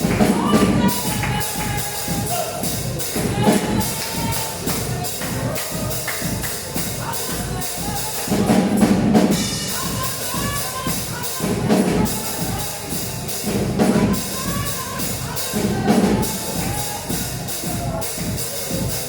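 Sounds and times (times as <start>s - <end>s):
music with percussion beat: 0.0s - 19.0s.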